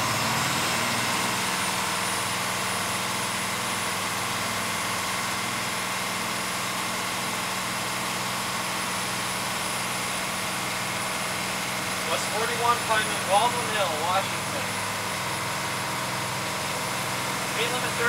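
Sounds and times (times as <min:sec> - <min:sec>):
bus diesel engine humming: 0:00.0 - 0:18.0.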